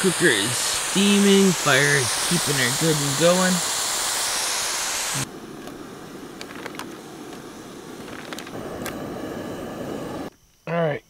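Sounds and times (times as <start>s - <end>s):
camp stove burner rushing: 0.0s - 10.3s.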